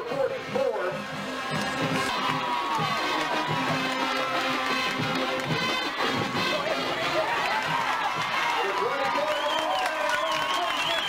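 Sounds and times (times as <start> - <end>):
crowd cheering and shouting: 0.0 - 11.0.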